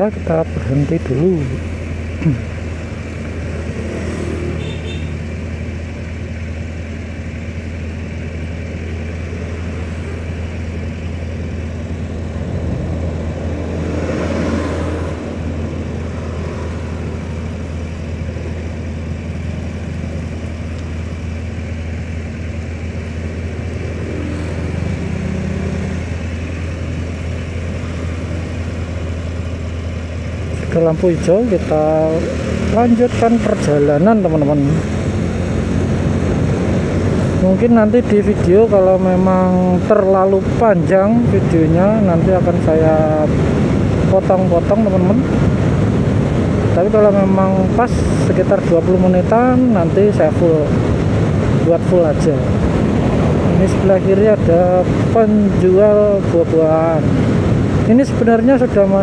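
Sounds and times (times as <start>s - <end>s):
street traffic: 0.0s - 59.0s
vehicle engine idling: 0.0s - 59.0s.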